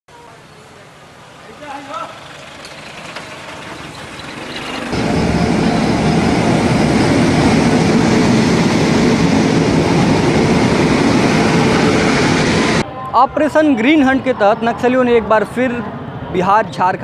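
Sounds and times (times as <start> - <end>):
train rumbling and rattling past: 0.2 - 16.9.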